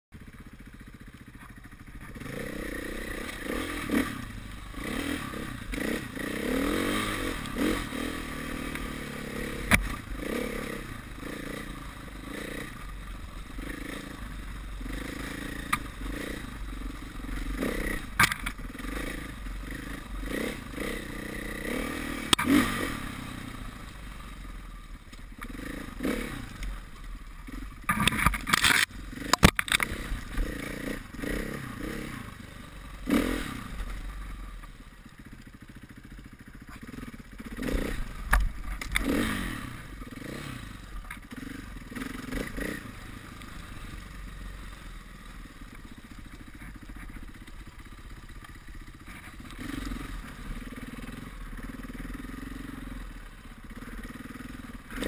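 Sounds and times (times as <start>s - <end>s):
motorcycle engine revving: 0.2s - 55.0s.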